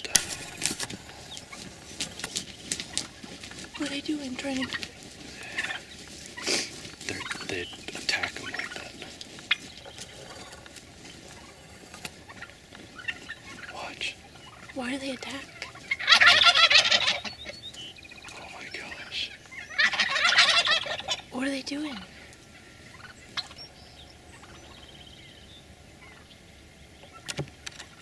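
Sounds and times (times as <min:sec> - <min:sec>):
turkeys gobbling: 0:00.0 - 0:28.0.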